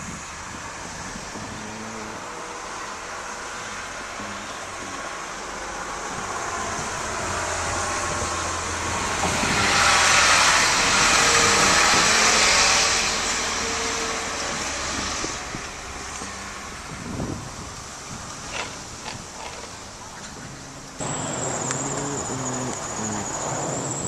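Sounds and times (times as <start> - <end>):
vehicle passing on snow: 0.0 - 24.0.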